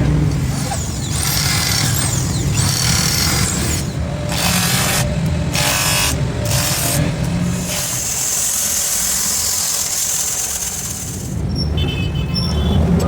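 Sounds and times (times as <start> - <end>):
harsh high-pitched grinding noise: 0.2 - 11.4
power tool motor humming: 0.2 - 11.4.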